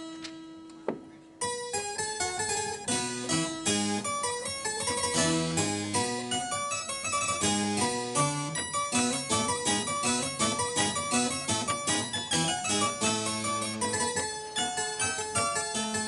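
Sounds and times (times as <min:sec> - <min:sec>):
harpsichord playing: 0:01.4 - 0:16.0.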